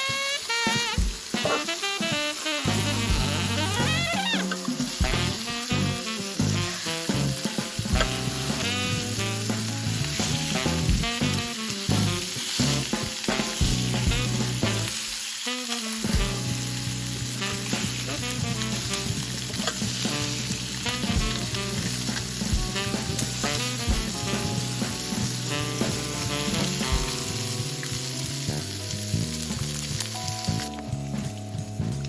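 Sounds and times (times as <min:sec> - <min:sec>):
background music: 0:00.0 - 0:15.1, 0:15.8 - 0:32.0
food frying with sizzle: 0:00.0 - 0:32.0.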